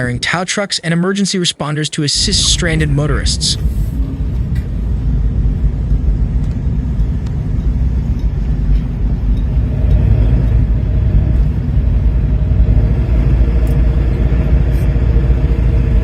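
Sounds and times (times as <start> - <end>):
faint steady tones: 0.0 - 16.0
steady low rumble: 0.0 - 16.0.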